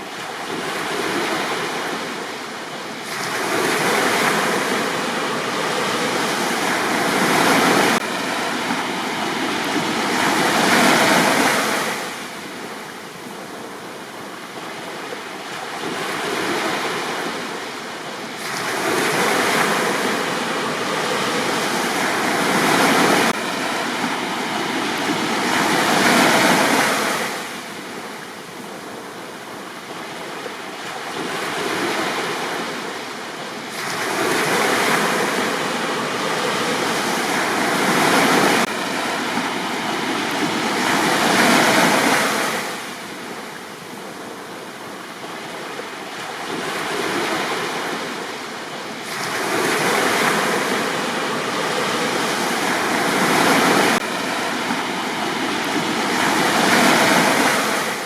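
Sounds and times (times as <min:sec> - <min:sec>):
sea waves breaking on beach: 0:00.0 - 0:58.0.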